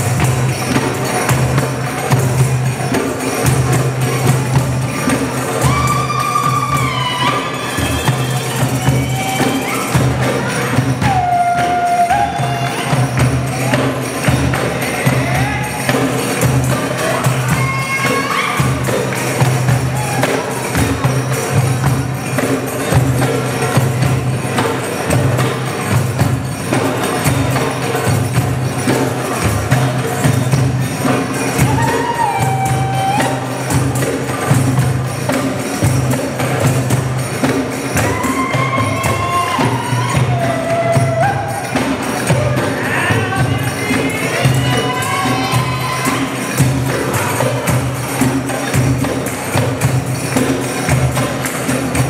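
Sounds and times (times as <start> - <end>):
hand drums: 0.0 - 52.0
jingling tambourine: 0.0 - 52.0.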